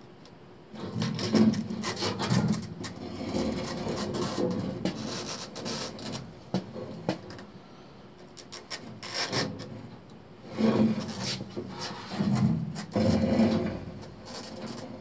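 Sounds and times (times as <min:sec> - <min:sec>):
rubbing and scraping handling noise: 0:00.8 - 0:07.6, 0:08.2 - 0:15.0.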